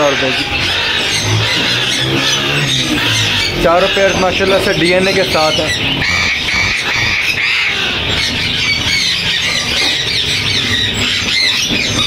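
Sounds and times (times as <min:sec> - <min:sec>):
lorikeets screeching and chattering: 0:00.0 - 0:12.0.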